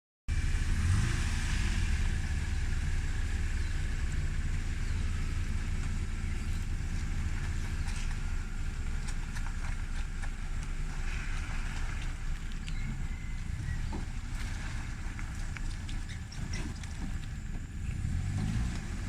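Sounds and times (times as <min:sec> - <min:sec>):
truck engine rumbling: 0:00.3 - 0:19.0.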